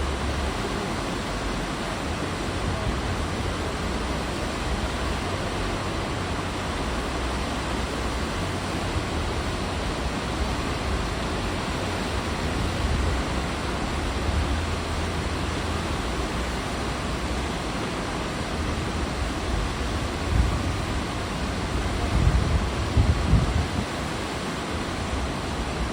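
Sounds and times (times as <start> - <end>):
sea water rushing along hull: 0.0 - 25.9.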